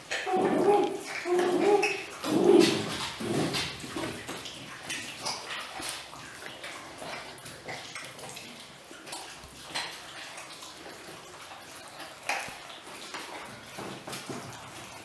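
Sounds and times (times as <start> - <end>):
puppies chewing bones: 0.0 - 15.0.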